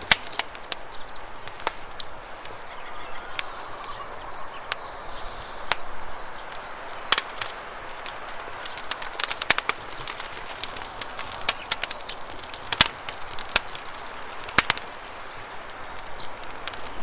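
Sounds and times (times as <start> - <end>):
river water flowing: 0.0 - 16.5
campfire crackling and popping: 0.0 - 17.0.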